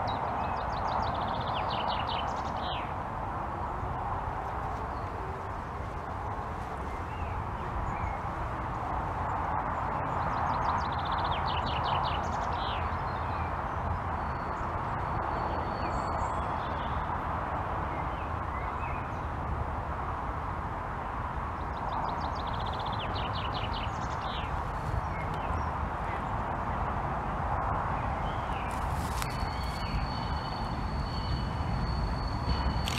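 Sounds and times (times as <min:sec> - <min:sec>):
songbird singing: 0:00.0 - 0:03.0, 0:04.5 - 0:08.5, 0:09.2 - 0:17.2, 0:17.8 - 0:19.4, 0:21.5 - 0:26.4, 0:27.9 - 0:32.9.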